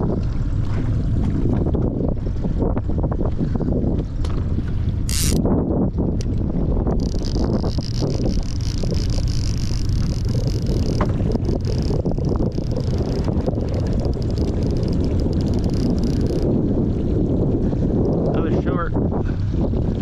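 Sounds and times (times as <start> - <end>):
boat motor running: 0.0 - 20.0
wind buffeting microphone: 0.0 - 20.0.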